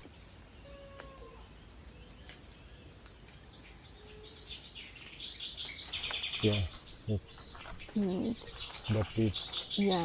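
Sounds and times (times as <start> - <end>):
insect chorus: 0.0 - 10.0.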